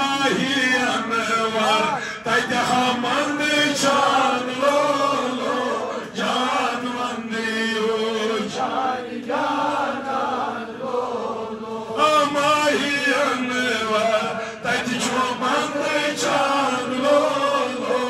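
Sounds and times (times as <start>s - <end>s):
man chanting devotional poem: 0.0s - 8.8s, 11.9s - 18.0s.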